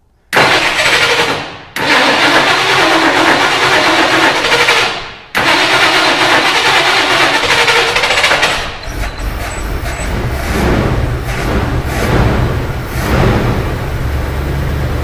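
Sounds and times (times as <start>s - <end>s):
engine cranking on starter: 0.4s - 15.0s.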